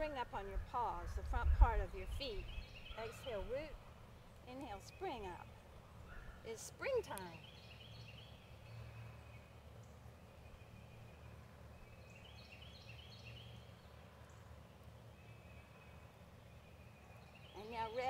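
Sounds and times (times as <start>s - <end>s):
faint birdsong: 0.0s - 18.0s
low steady rumble: 0.0s - 18.0s.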